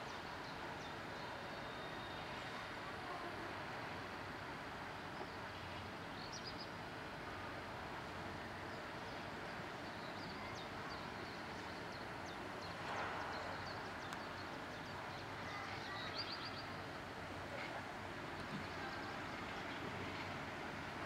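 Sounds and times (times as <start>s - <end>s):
railway station background noise: 0.0s - 21.0s.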